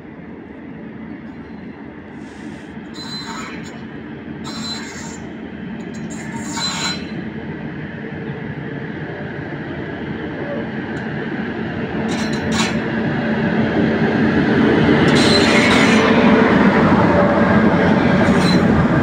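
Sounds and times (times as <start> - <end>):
train approaching rumble: 0.0 - 19.0.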